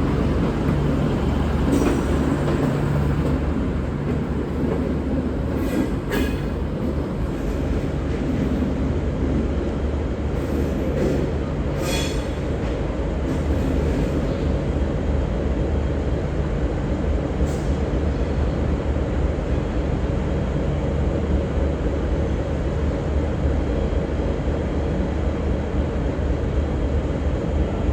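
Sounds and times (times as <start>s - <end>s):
diesel train engines rumbling: 0.0s - 27.9s.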